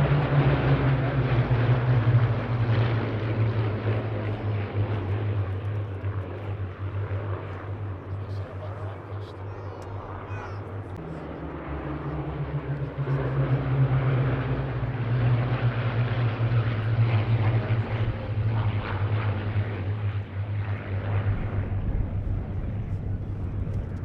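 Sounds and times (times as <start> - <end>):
propeller plane engine drone: 0.0 - 24.0.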